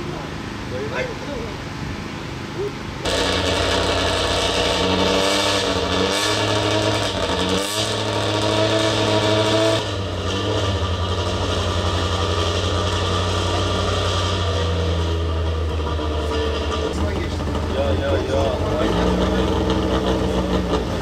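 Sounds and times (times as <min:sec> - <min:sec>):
car engine idling: 0:00.0 - 0:21.0
race car engine revving: 0:01.5 - 0:21.0.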